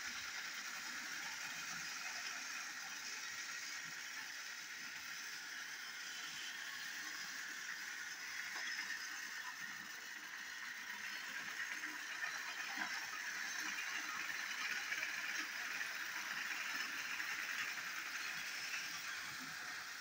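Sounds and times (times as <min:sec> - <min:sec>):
toy train motor whirring: 0:00.0 - 0:20.0.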